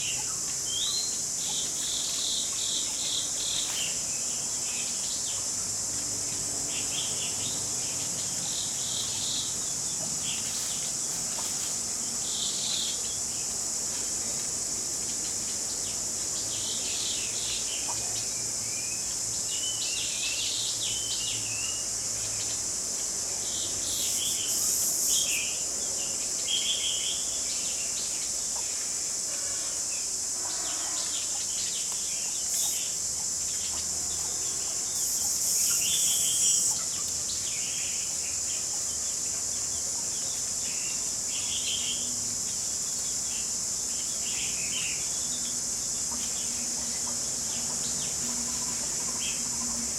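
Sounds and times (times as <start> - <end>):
insects droning: 0.0 - 49.9.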